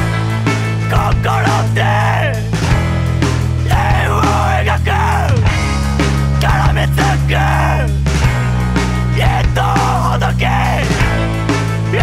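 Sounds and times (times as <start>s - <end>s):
hardcore rock music: 0.0s - 12.0s.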